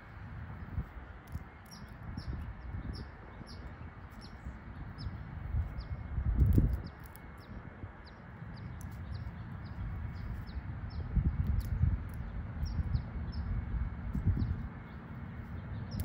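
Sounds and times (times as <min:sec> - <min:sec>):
low rumble: 0:00.0 - 0:16.0
small birds chirping: 0:00.0 - 0:16.0.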